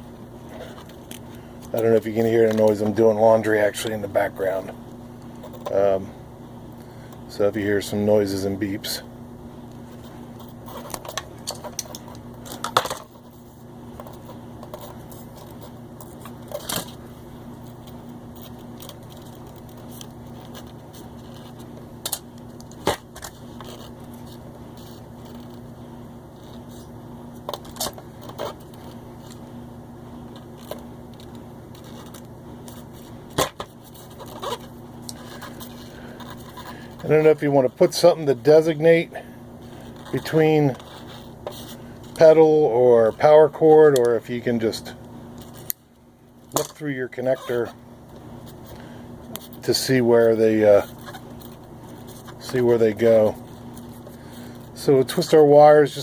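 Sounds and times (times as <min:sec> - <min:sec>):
laundry machine humming: 0:00.0 - 0:56.0.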